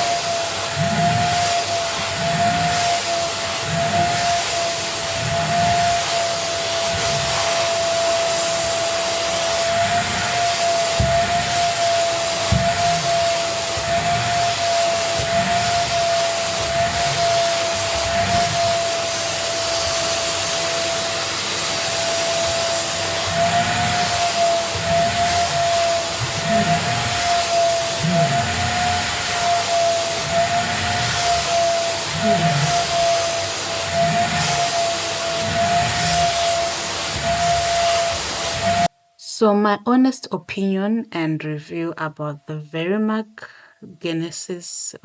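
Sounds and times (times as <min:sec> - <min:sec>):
vacuum cleaner whining: 0:00.0 - 0:39.0.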